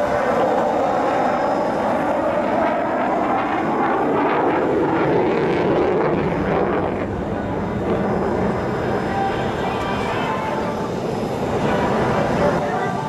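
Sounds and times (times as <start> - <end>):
fighter jet engines roaring: 0.0 - 13.0.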